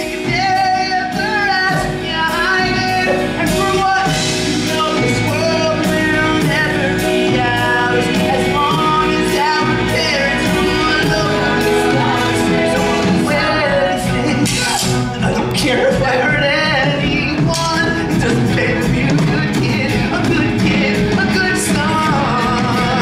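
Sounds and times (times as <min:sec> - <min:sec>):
band with steady drumbeat: 0:00.0 - 0:23.0
people singing: 0:00.0 - 0:23.0.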